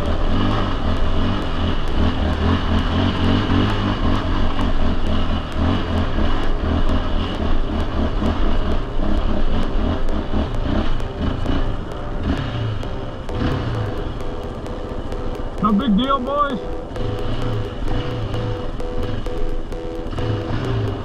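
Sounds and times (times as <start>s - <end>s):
atv engine revving under load: 0.0s - 21.0s.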